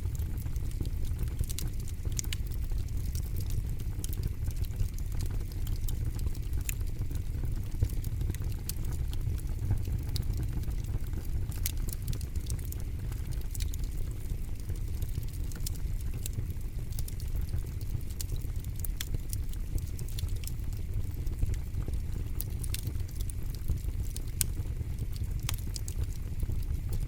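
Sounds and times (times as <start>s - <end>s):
campfire crackling and popping: 0.0s - 27.0s
fire low rumble: 0.0s - 27.0s.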